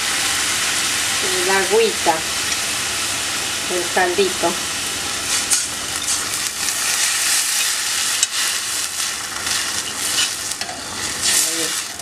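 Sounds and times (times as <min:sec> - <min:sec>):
broth sizzling in hot pan: 0:00.0 - 0:12.0.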